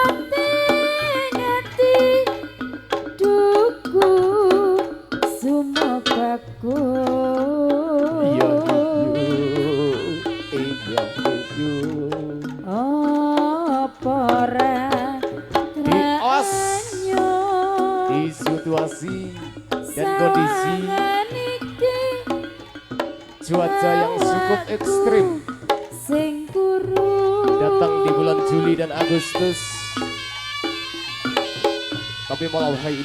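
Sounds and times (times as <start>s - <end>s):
hand drum strokes: 0.0s - 33.0s
person singing: 0.0s - 33.0s.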